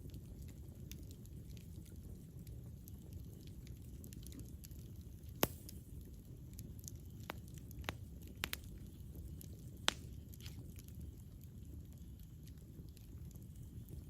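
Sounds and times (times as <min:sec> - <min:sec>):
campfire flames rumbling: 0:00.0 - 0:14.0
wood crackling and popping: 0:00.0 - 0:14.0.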